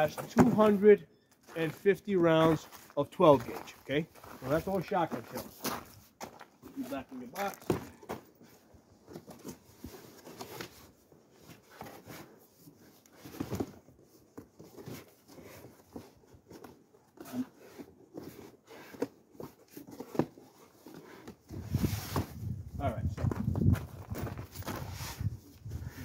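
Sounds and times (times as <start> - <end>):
cardboard boxes rustling and scraping: 0.0 - 26.0.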